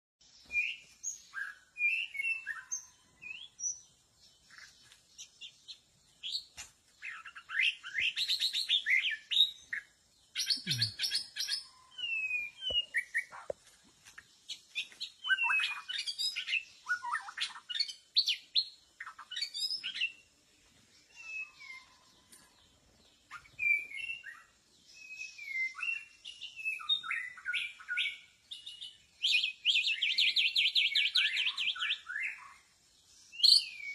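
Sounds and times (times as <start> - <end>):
bird singing whistles and trills: 0.3 - 3.9, 4.5 - 13.4, 14.5 - 20.3, 21.0 - 22.2, 23.3 - 33.9.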